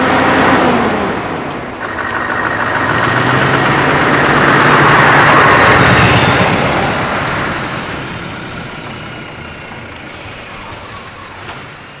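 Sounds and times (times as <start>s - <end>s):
truck passing and driving off: 0.0s - 12.0s.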